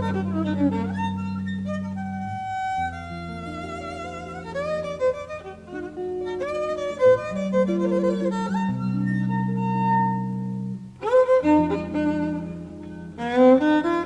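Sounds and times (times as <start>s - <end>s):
guitar chords: 0.0s - 14.0s
jazz violin melody: 0.0s - 14.0s.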